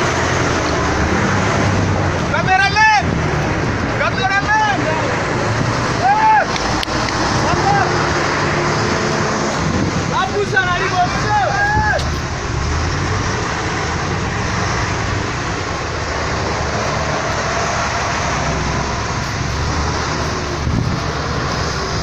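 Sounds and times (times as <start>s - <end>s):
constant rushing noise: 0.0s - 22.0s
truck engine running: 0.0s - 22.0s.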